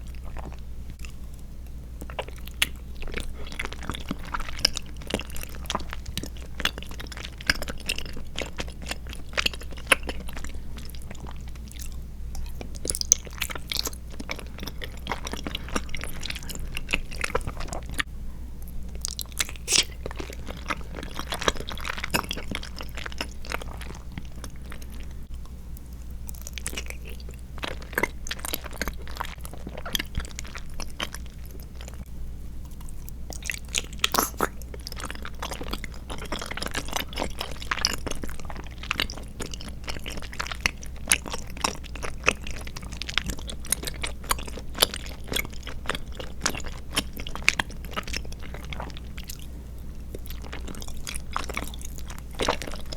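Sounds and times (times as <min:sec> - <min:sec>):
wet chewing mouth clicks: 0:02.0 - 0:49.5.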